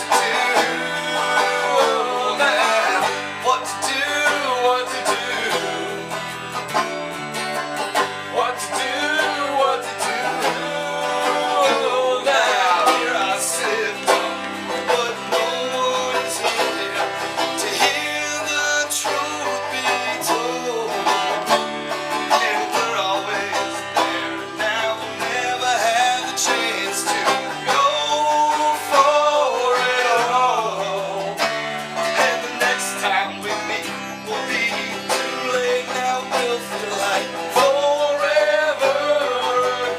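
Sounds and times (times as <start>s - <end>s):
person singing: 0.0s - 6.9s, 8.2s - 39.9s
banjo and guitar music: 0.0s - 39.9s.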